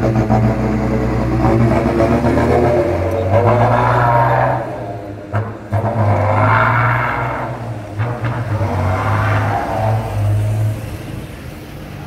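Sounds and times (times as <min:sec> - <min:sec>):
truck diesel engine revving: 0:00.0 - 0:11.6.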